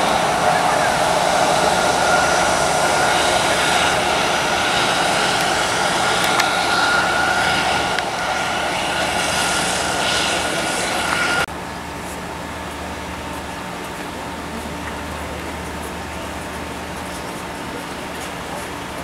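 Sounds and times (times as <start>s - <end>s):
jet engines running with whine: 0.0s - 19.0s.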